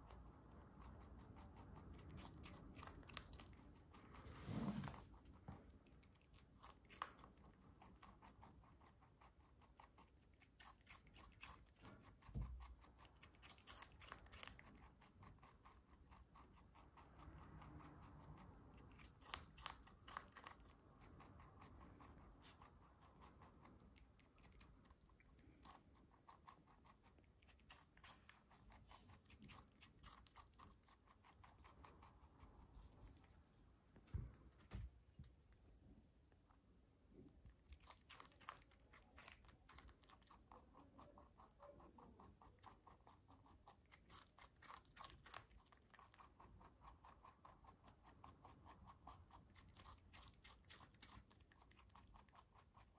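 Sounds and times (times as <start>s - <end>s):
rabbit chewing cucumber crunches: 0.0s - 52.9s.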